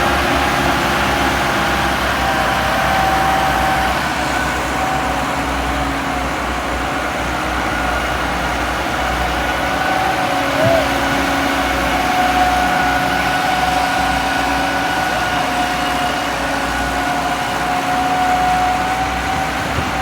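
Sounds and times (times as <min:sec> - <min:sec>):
heavy vehicle engine rumbling: 0:00.0 - 0:20.0.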